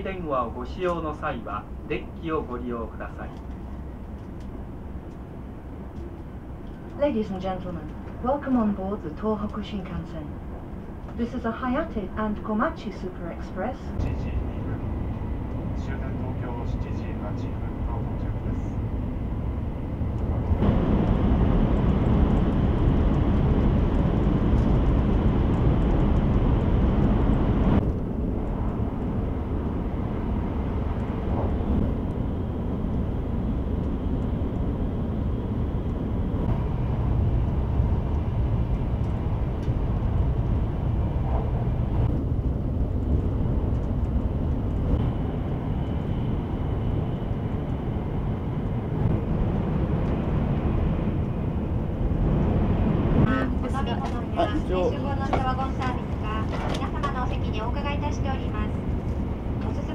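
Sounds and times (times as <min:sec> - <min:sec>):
train running noise inside cabin: 0:00.0 - 0:59.9.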